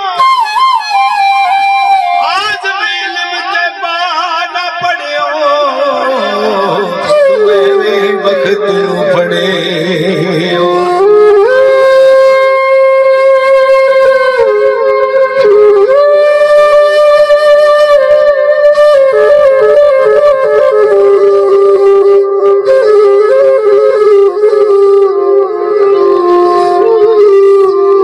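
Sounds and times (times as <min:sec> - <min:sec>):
bansuri flute long notes: 0:00.0 - 0:28.0.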